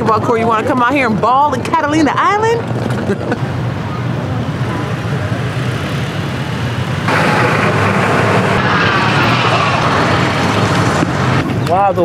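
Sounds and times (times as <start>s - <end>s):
motor vehicle rumbling: 0.0s - 12.0s
street noise: 0.0s - 12.0s.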